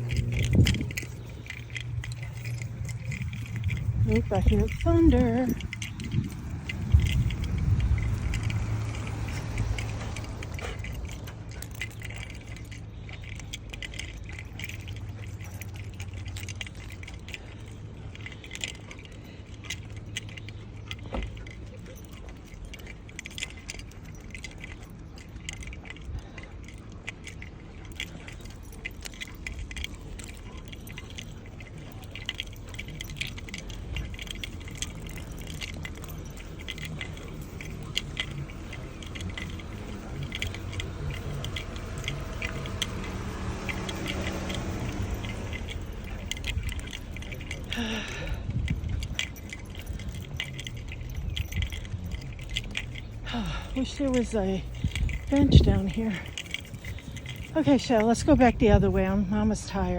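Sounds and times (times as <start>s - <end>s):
low rumble: 0.0s - 59.9s
metal pieces jingling: 0.0s - 59.9s.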